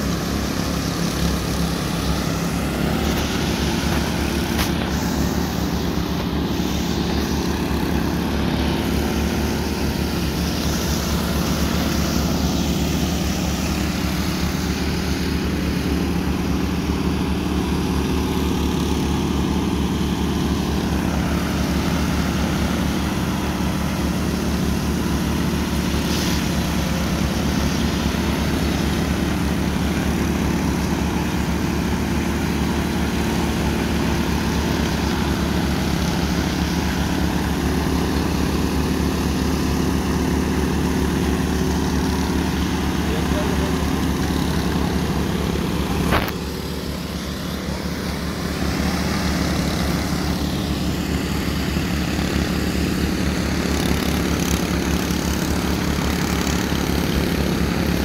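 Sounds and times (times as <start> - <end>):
power trowel engines droning: 0.0 - 58.0.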